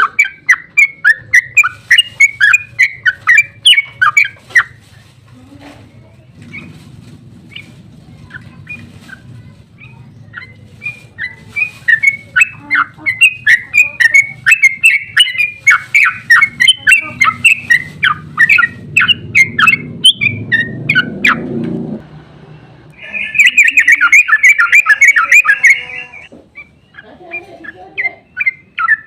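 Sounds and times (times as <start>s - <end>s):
bulbul chirping song: 0.0s - 4.8s, 7.5s - 21.5s, 23.0s - 29.0s.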